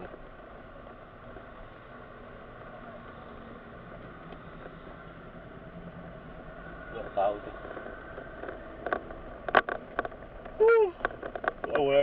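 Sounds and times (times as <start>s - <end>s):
car engine: 0.0s - 12.0s
road noise inside car: 0.0s - 12.0s.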